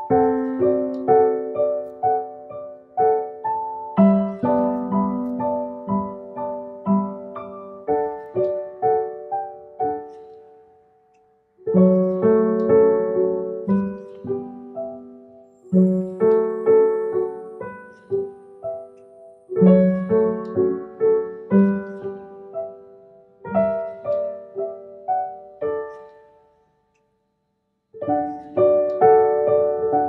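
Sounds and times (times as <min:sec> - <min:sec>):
gentle piano melody: 0:00.0 - 0:26.7, 0:27.9 - 0:30.0.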